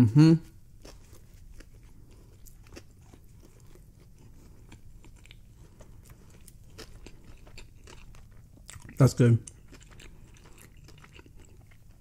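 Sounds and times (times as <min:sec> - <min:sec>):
chewing with soft crunches: 0:00.4 - 0:12.0.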